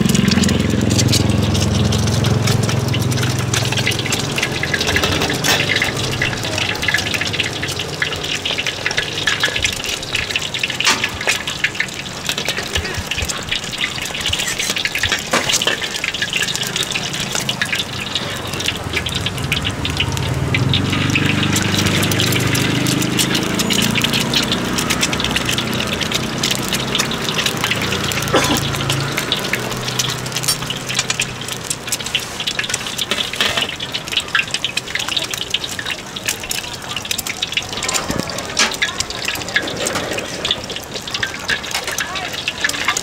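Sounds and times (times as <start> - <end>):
eggs sizzling in hot oil: 0.0 - 43.0.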